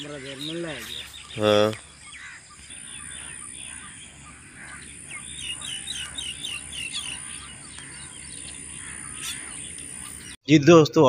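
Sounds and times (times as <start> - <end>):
birds chirping: 0.0 - 10.5.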